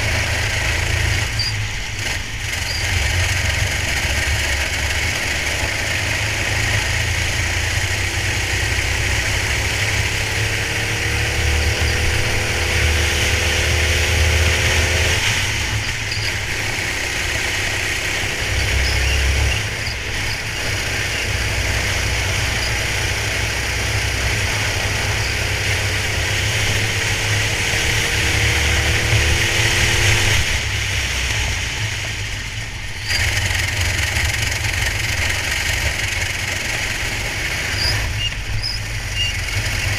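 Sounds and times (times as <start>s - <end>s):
kart engine accelerating: 0.0s - 39.9s.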